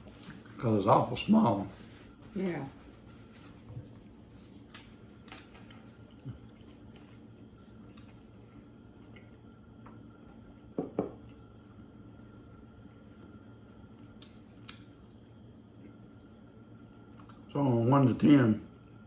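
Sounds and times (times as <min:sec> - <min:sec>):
eating and handling noises: 0:00.0 - 0:19.0
low steady hum: 0:00.0 - 0:19.0.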